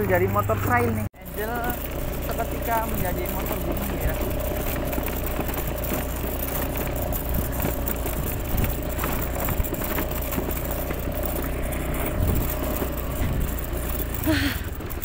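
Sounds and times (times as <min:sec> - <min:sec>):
motorbike engine rumble: 0:00.0 - 0:15.0
knocks and clatter from stones: 0:01.7 - 0:15.0.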